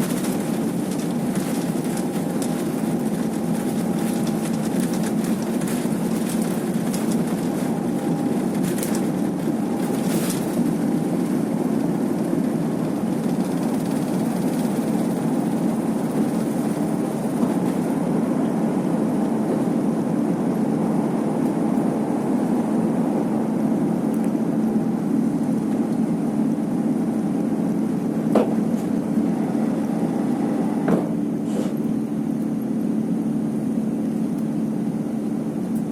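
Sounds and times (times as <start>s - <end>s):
jet engines rumbling: 0.0s - 35.7s.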